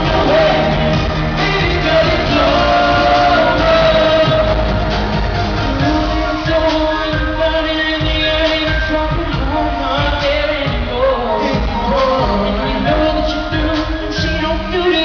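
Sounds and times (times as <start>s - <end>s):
drum beat: 0.0s - 15.0s
live pop song: 0.0s - 15.0s
man singing: 0.0s - 15.0s.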